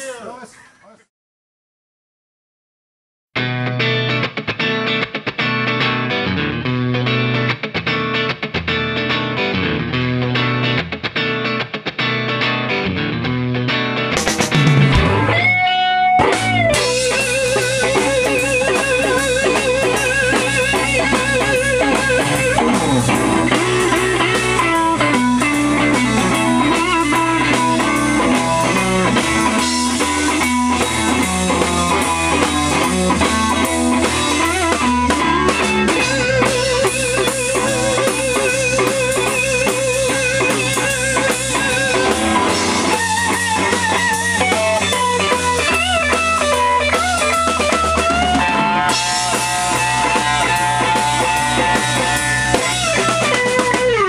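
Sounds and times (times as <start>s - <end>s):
electric guitar with vibrato: 3.4s - 54.0s
bass and drums: 5.4s - 11.3s, 12.4s - 54.0s.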